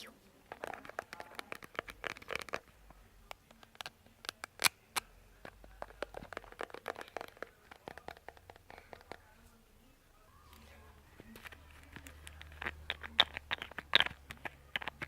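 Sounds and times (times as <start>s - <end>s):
tapping and scratching on object: 0.5s - 9.4s, 11.2s - 15.0s.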